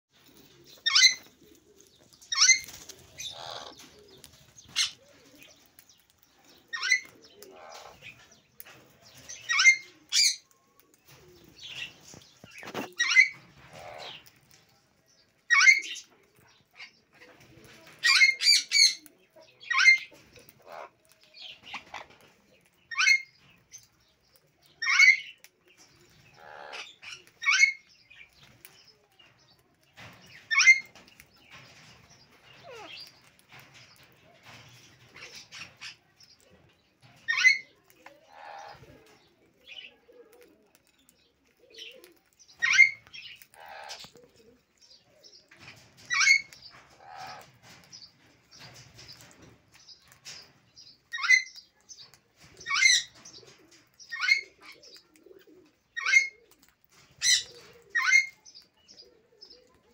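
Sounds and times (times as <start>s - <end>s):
soft parrot chatter: 0.1s - 59.9s.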